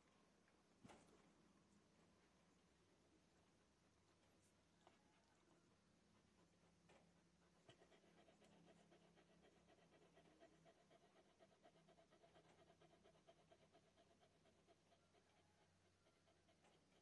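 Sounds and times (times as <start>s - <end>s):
dog panting faintly: 3.1s - 17.0s.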